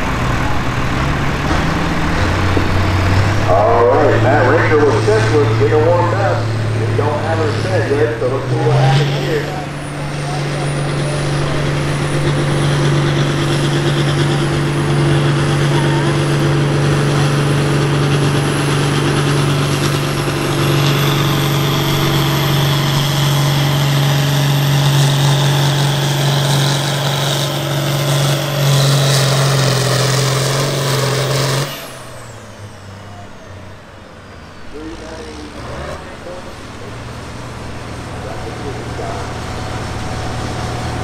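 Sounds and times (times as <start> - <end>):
tractor engine running hard: 0.0 - 41.0.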